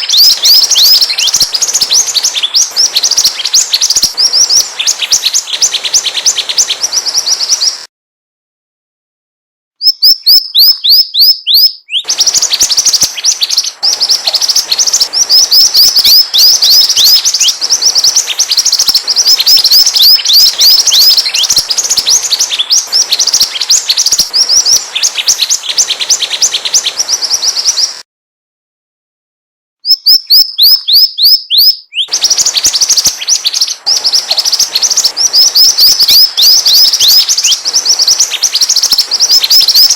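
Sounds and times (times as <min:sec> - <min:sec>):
bird chirping: 0:00.0 - 0:07.9, 0:09.8 - 0:28.0, 0:29.8 - 0:39.9.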